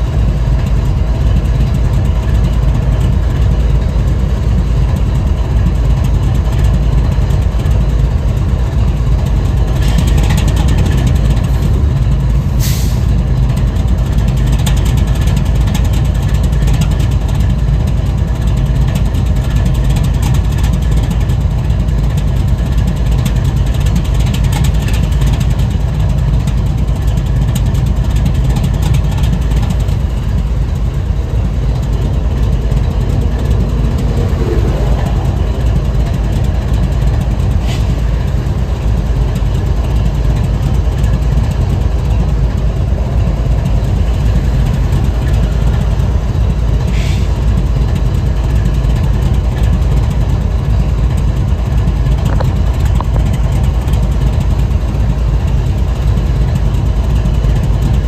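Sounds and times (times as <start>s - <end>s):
locomotive idling: 0.0s - 58.0s.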